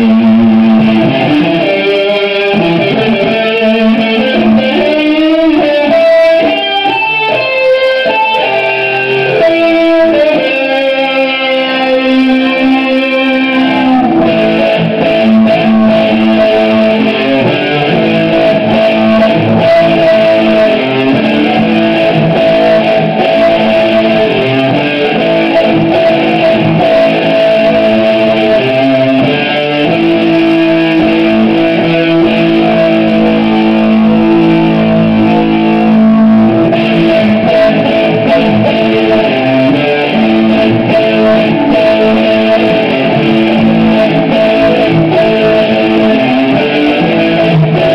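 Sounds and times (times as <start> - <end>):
electric guitar through amplifier: 0.0 - 47.9.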